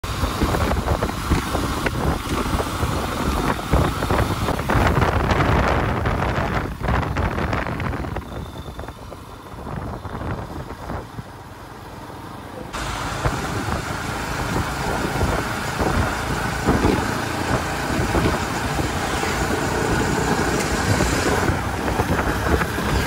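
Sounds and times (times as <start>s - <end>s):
wind noise on microphone: 0.0s - 11.4s, 12.8s - 23.0s
motorcycle engine rumble: 0.0s - 23.0s.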